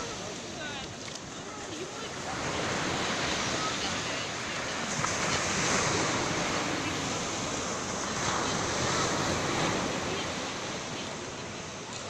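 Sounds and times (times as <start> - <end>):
waves washing up pebble beach: 0.0 - 12.0.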